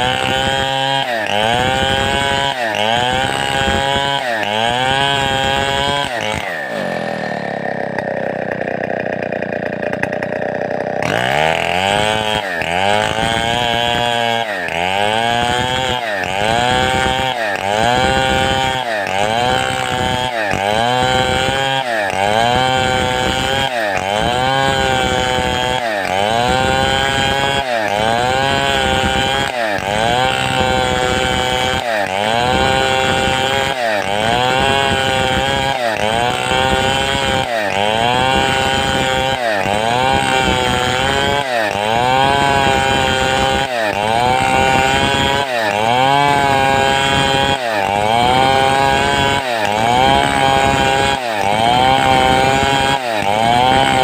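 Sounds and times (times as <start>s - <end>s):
chainsaw cutting under load: 0.0s - 54.0s.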